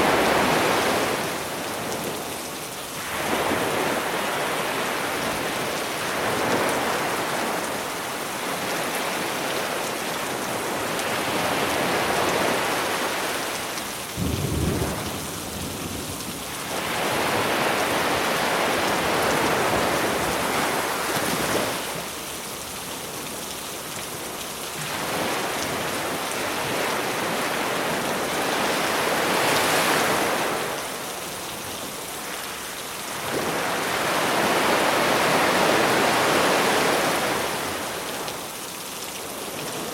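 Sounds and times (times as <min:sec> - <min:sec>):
sea waves breaking on shore: 0:00.0 - 0:23.2, 0:24.8 - 0:39.9
steady rain: 0:00.0 - 0:39.9.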